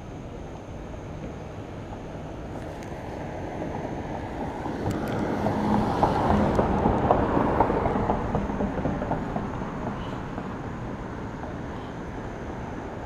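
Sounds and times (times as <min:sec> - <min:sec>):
car passing on road: 0:01.6 - 0:13.0.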